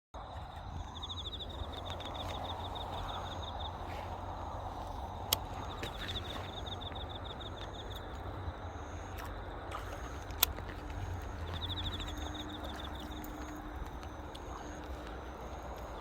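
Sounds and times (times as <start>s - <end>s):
insect chirping: 0.2s - 16.0s
low outdoor rumble: 0.2s - 16.0s.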